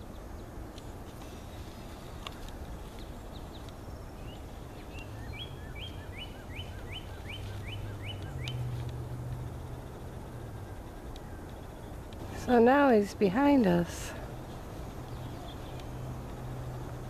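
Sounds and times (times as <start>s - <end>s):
songbird singing: 0.0s - 17.0s
steady low hum: 0.0s - 17.0s.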